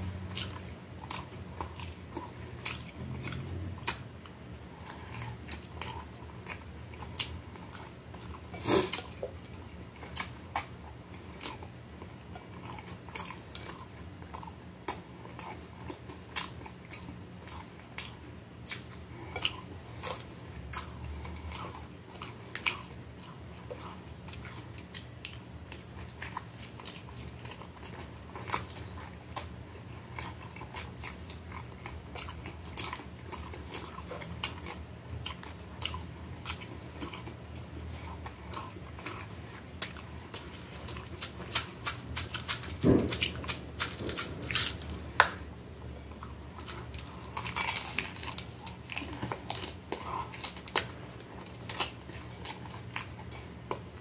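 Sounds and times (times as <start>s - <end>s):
crunchy chewing: 0.0s - 54.0s
low steady hum: 0.0s - 54.0s.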